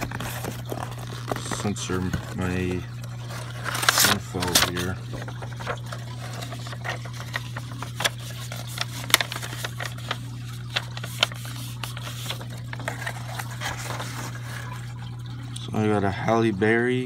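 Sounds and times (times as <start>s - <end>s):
paper and cardboard rustling: 0.0s - 15.0s.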